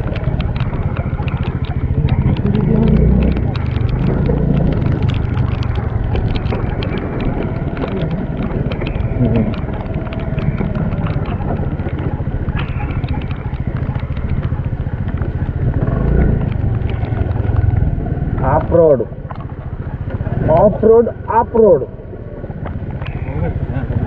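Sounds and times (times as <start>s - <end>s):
motor scooter engine rumble: 0.0s - 24.0s.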